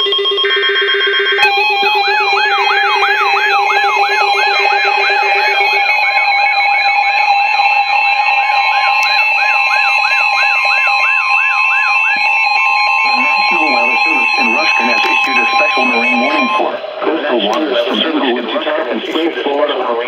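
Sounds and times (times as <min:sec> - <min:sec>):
falling electronic alarm chirp: 0:00.0 - 0:18.8
steady electronic tones: 0:00.0 - 0:20.0.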